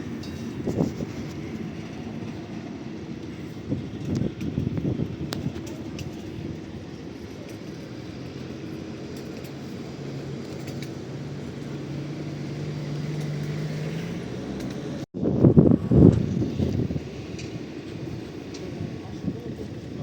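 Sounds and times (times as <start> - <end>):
diesel train engine running: 0.0 - 20.0.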